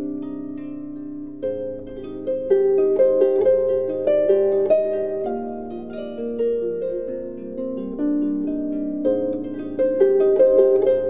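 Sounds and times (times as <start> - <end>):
plucked instrumental music: 0.0 - 11.0.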